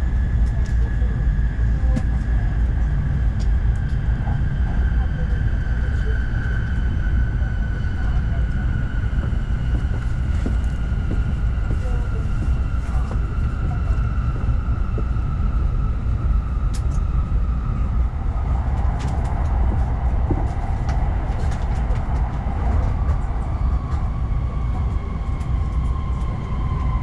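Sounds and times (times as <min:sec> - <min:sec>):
train cabin rumble: 0:00.0 - 0:27.0.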